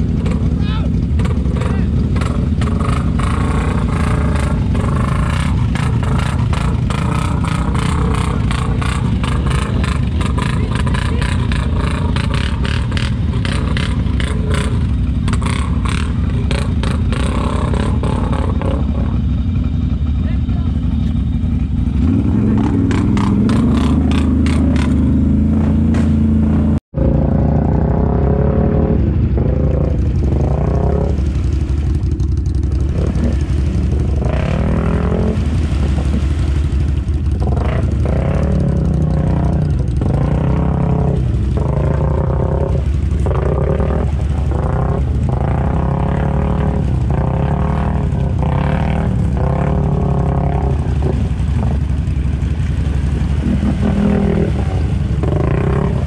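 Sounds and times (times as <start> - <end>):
quad engine revving: 0.0 - 19.4, 21.8 - 56.0.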